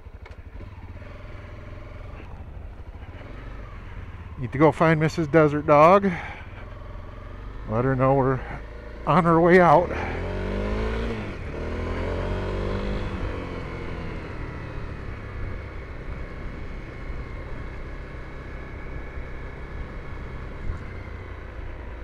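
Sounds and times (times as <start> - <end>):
motorcycle engine rumble: 0.0 - 22.0.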